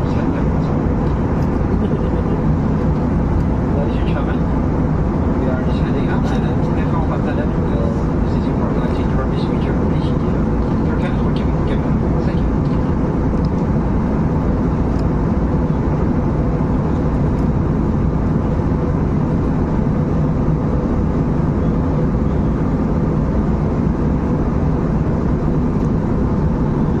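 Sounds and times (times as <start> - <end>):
airliner cabin engine and airflow noise: 0.0 - 27.0.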